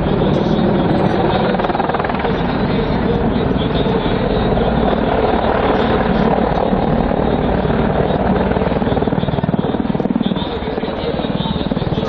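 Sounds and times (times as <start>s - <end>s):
helicopter rotor chopping: 0.0s - 12.0s
helicopter turbine noise: 0.0s - 12.0s.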